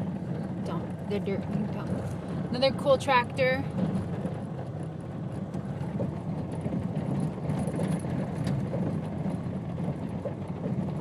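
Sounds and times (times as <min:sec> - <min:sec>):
faint rattles: 0:00.0 - 0:11.0
tyre and suspension rumble: 0:00.0 - 0:11.0.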